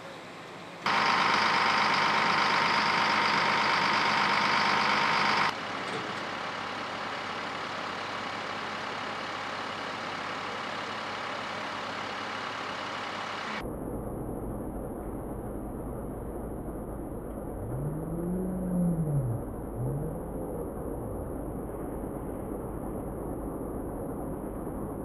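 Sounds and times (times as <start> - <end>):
fire engine pump whining drone: 0.0 - 25.0.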